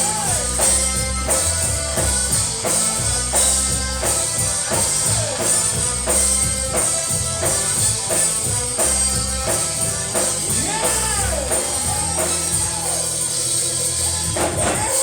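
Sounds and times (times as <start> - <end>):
live gospel band: 0.0 - 15.0
steady drum beat: 0.0 - 15.0.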